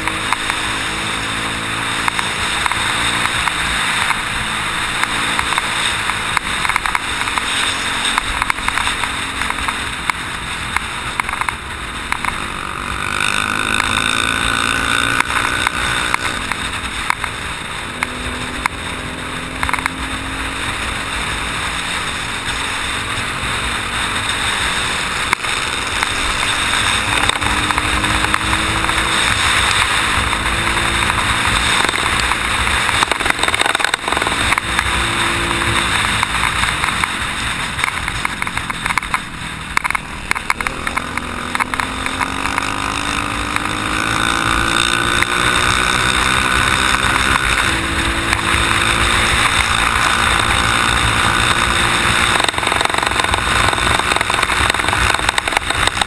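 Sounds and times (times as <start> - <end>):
dirt bike engine revving: 0.0 - 56.0
noisy rush: 0.0 - 56.0.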